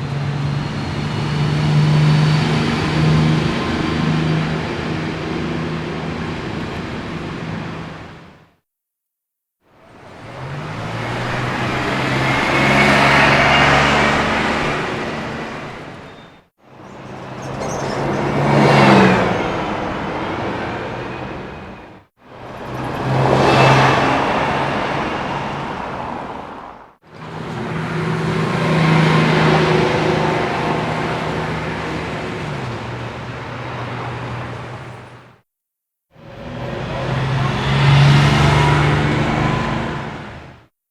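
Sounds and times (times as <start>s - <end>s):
bus passing by: 0.0s - 8.5s, 9.7s - 35.4s, 36.2s - 40.7s.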